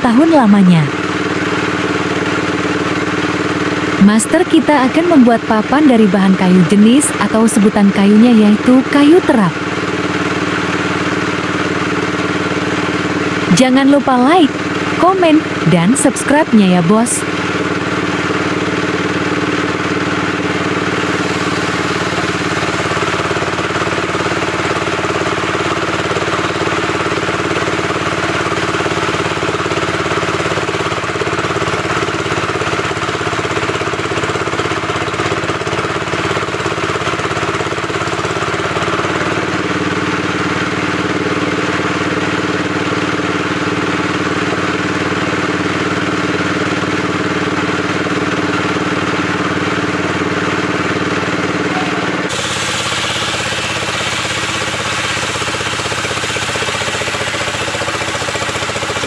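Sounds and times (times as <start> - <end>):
sawmill machine droning: 0.0 - 59.0.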